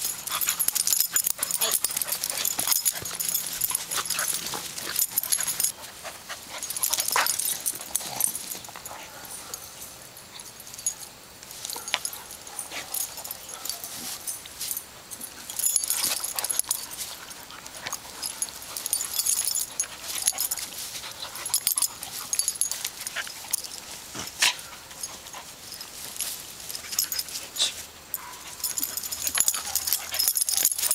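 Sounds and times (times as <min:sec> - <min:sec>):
dogs snuffling: 0:00.0 - 0:30.9.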